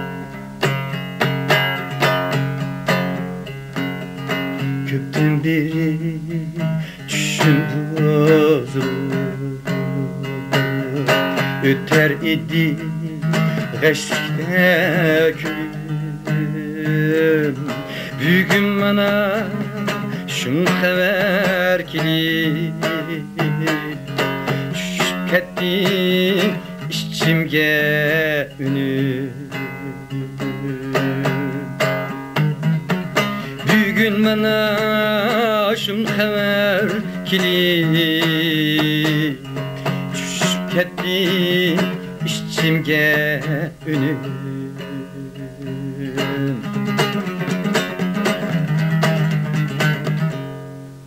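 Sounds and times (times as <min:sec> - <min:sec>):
man singing ornamented melody: 0:00.0 - 0:50.5
lute strumming and plucking: 0:00.0 - 0:51.0.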